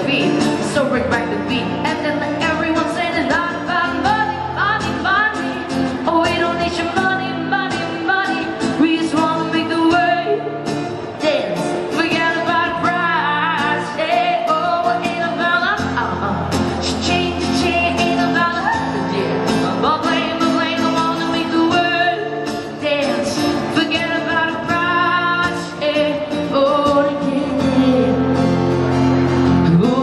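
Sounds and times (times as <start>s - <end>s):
woman singing into microphone: 0.0s - 28.6s, 29.4s - 30.0s
acoustic guitar: 0.0s - 30.0s.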